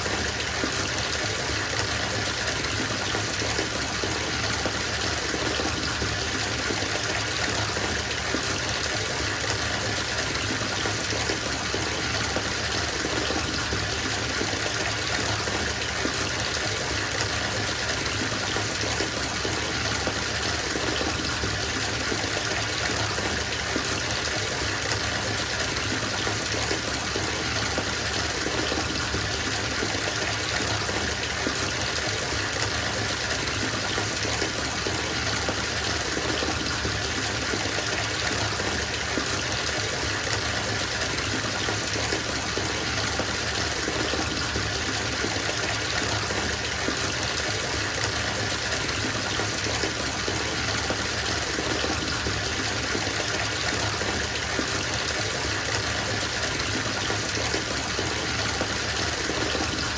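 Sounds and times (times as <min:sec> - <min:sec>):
water gushing from bathtub tap: 0:00.0 - 0:59.9.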